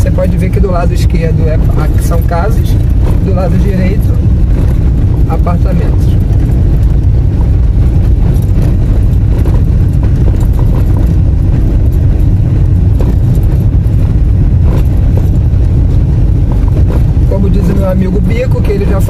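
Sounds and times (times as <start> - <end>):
car tyres rumbling over cobblestones: 0.0 - 19.0.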